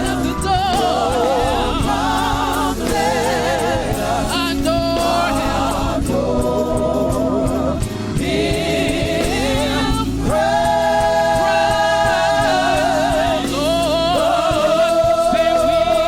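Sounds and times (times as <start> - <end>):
band accompaniment: 0.0 - 16.0
gospel choir singing: 0.0 - 16.0.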